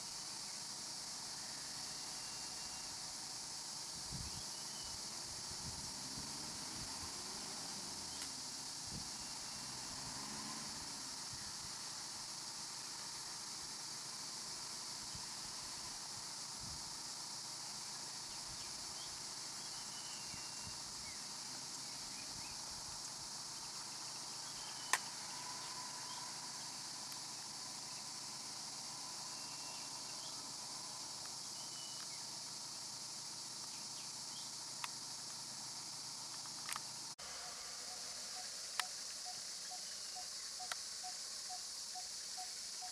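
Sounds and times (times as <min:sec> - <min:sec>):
insect chorus: 0:00.0 - 0:42.9.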